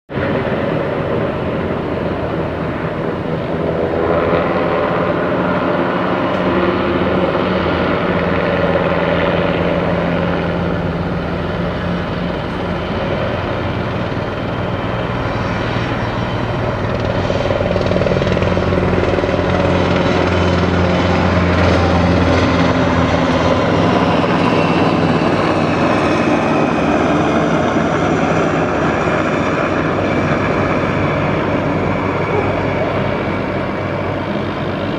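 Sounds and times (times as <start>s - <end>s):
helicopters flying overhead: 0.1s - 34.9s.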